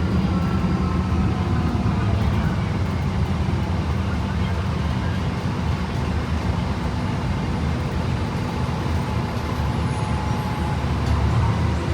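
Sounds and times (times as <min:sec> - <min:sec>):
bus engine and road drone: 0:00.0 - 0:11.9.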